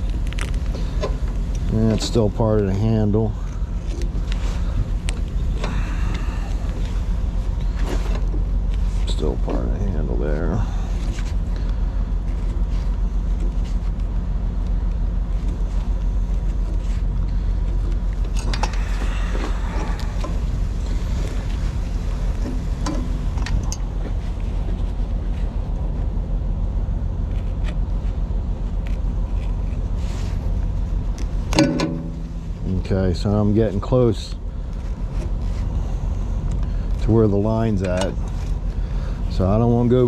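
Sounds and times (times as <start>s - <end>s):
engine idling hum: 0.0s - 40.0s.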